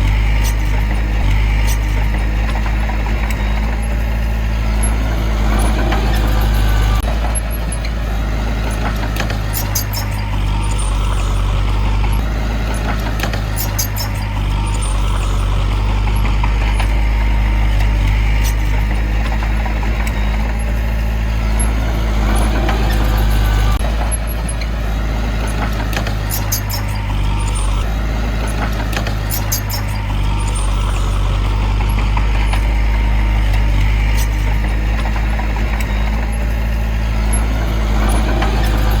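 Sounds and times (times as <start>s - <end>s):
heavy diesel machinery running: 0.0s - 39.0s
sharp metallic clicks and squeaks: 0.0s - 39.0s.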